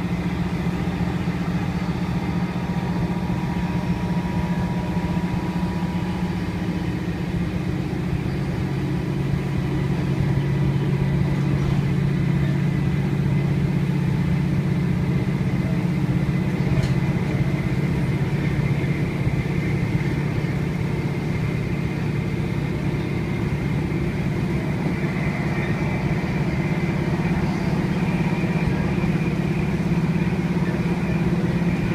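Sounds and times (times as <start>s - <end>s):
train diesel engine running: 0.0s - 31.9s.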